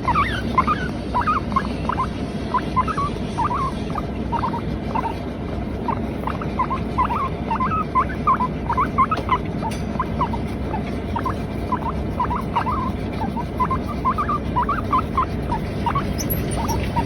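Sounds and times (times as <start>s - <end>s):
guinea pig squeaky chirps: 0.0s - 17.0s.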